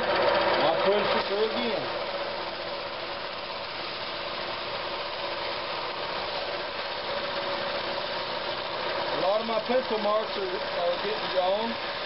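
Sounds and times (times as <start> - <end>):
drum sander sanding wood: 0.0 - 12.0.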